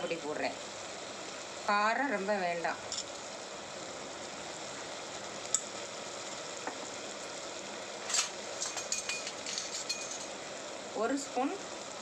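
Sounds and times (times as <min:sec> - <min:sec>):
masala sizzling in ghee: 0:00.0 - 0:12.0.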